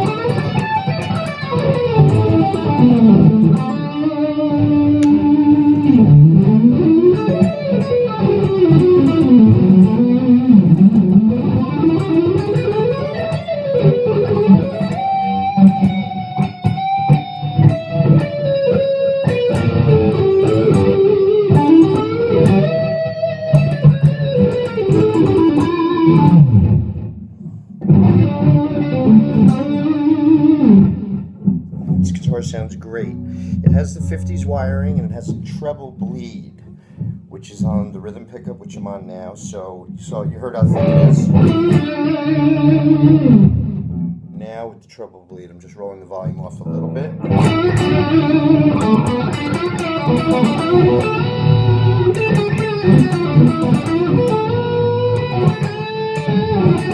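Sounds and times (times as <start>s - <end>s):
electric guitar lead line: 0.0s - 37.9s, 40.0s - 44.4s, 46.2s - 56.9s.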